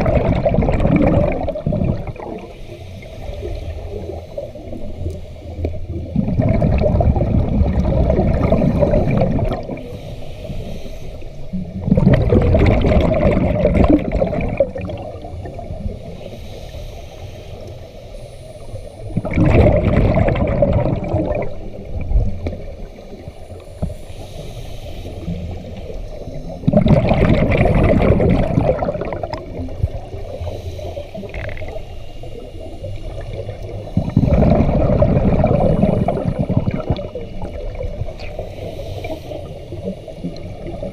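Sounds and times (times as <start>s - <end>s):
gurgling exhaled bubbles: 0.0s - 10.0s, 11.5s - 16.3s, 18.9s - 24.2s, 25.2s - 40.9s.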